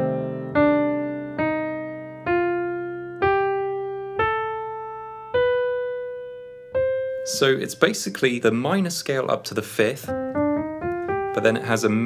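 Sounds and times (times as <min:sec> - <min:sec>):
piano playing a scale: 0:00.0 - 0:12.0.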